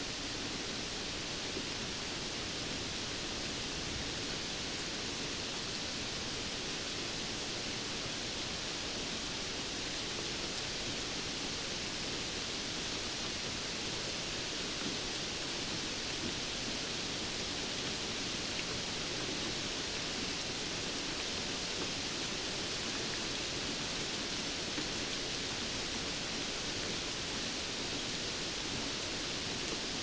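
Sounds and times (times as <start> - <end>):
steady rainfall: 0.0 - 30.0.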